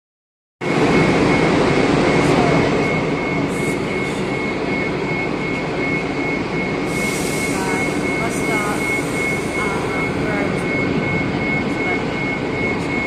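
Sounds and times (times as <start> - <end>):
high-pitched engine whine: 0.6 - 13.0.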